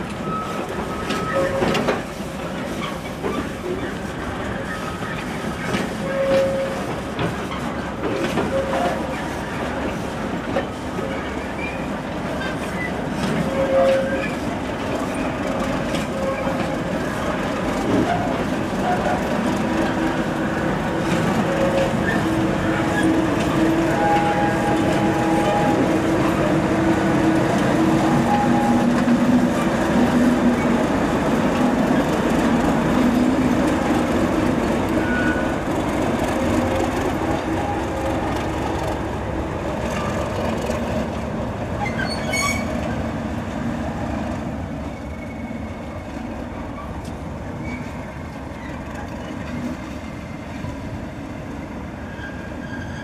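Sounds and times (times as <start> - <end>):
train running: 0.0 - 53.0.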